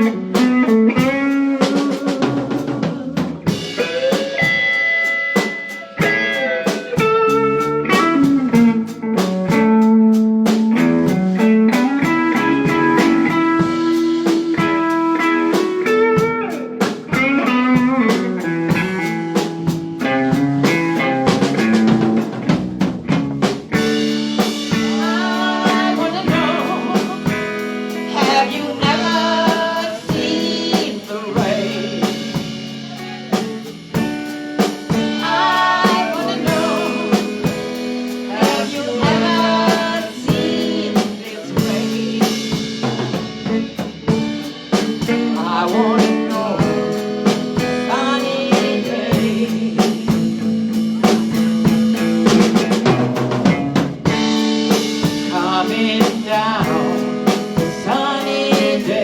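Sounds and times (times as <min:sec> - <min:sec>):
drum kit: 0:00.0 - 0:59.0
electric guitar melody: 0:00.0 - 0:59.0.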